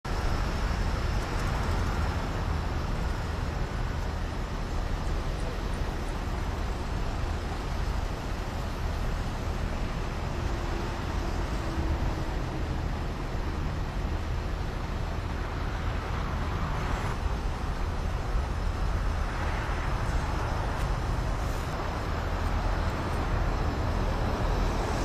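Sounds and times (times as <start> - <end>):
outdoor rumble and hiss: 0.0 - 25.0.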